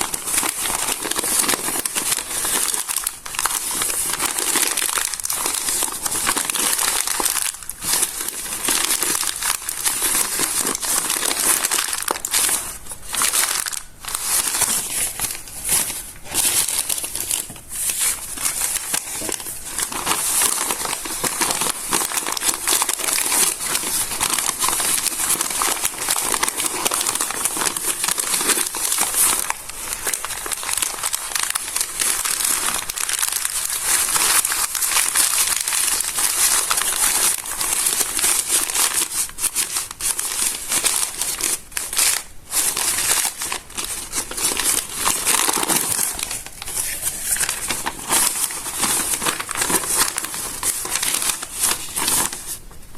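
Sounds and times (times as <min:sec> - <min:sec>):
stiff paper pages crinkling: 0:00.0 - 0:52.9.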